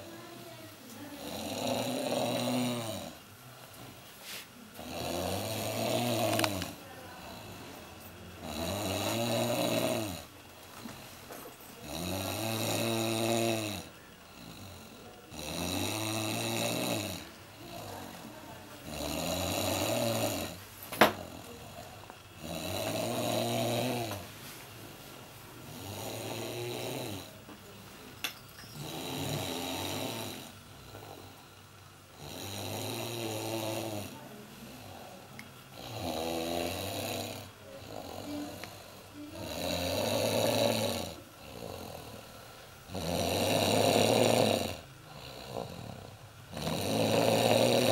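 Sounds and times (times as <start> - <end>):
person snoring: 1.1 - 3.2, 4.2 - 7.8, 8.4 - 11.1, 11.8 - 24.3, 25.7 - 27.4, 28.7 - 47.9.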